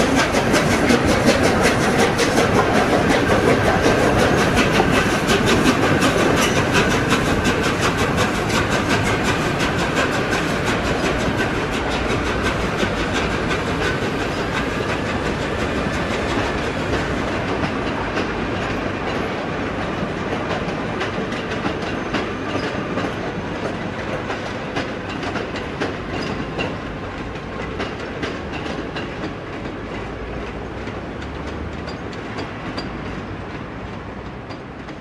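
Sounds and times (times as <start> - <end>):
train wheels rumbling: 0.0 - 35.0
wheels clicking on rail joints: 0.0 - 35.0.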